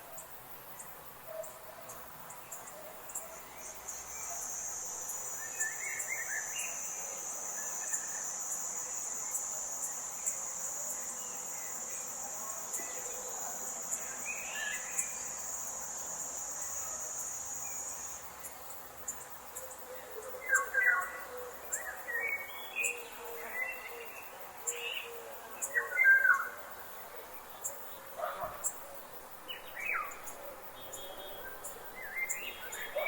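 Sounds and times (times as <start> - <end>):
forest background: 0.0 - 33.0.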